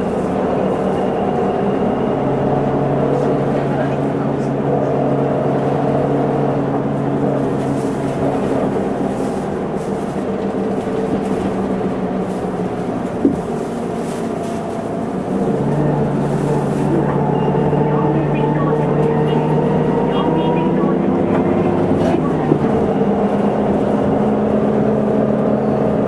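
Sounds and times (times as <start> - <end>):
bus diesel engine running: 0.0 - 26.0
road noise: 0.0 - 26.0.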